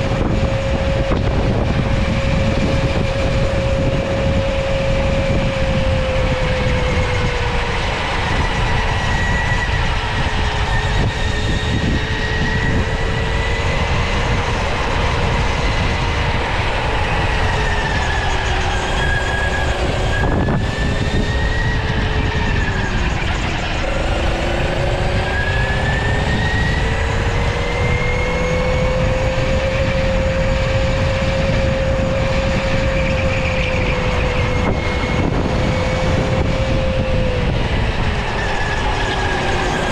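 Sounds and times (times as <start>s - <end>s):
electric motor whining: 0.0s - 39.9s
loud low rumble: 0.0s - 39.9s.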